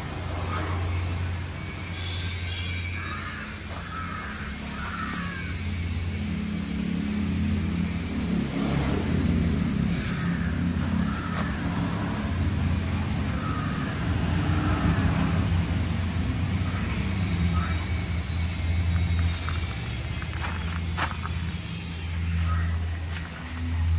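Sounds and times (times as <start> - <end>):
tractor diesel engine idling: 0.0 - 23.9.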